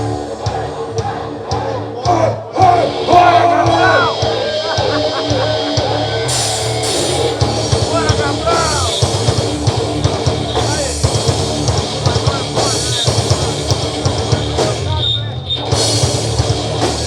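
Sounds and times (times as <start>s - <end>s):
drum kit fast beat: 0.0s - 17.0s
rock band playing: 0.0s - 17.0s.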